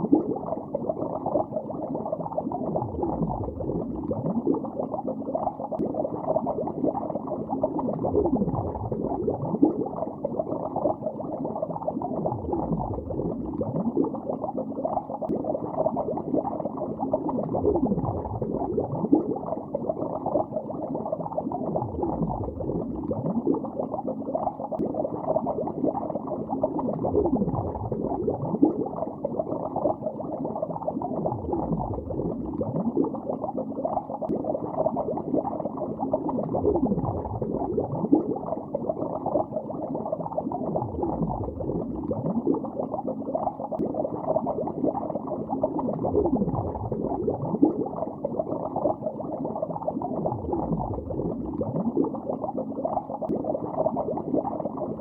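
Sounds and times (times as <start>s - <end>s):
muffled underwater bubbling: 0.0s - 55.0s.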